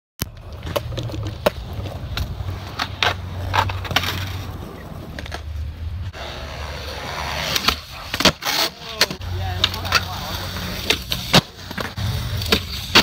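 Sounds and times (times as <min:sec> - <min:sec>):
skateboard clacking on ground: 0:00.2 - 0:05.6, 0:06.9 - 0:13.0
skateboard wheels rolling on concrete: 0:00.2 - 0:13.0.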